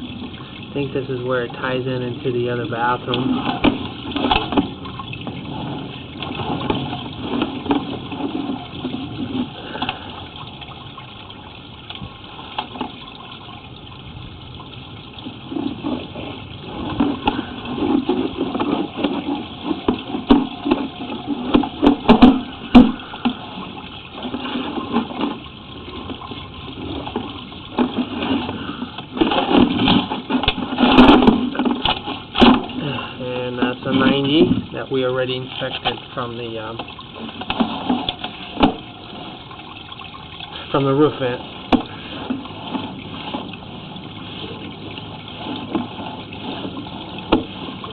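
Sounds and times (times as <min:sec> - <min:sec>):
water rushing through sewer pipe: 0:00.0 - 0:47.9
camera knocking and scraping in pipe: 0:00.3 - 0:10.1, 0:15.1 - 0:32.8, 0:33.4 - 0:47.9.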